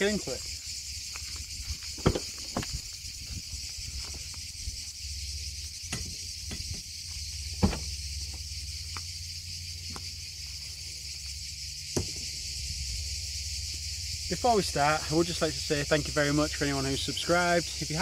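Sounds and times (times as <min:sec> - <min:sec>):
high drone of insects: 0:00.0 - 0:18.0.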